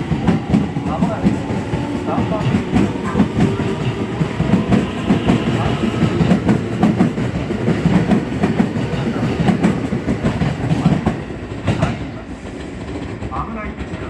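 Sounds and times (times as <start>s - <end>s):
train running noise: 0.0s - 14.0s
train wheels clacking over rail joints: 0.0s - 14.0s.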